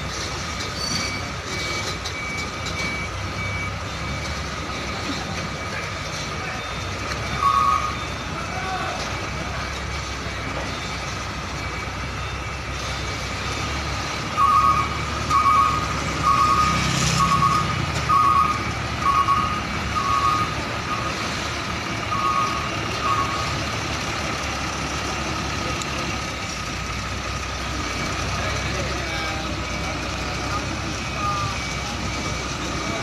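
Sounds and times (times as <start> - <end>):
diesel truck engine running: 0.0 - 33.0
reversing alarm beeping: 0.0 - 33.0.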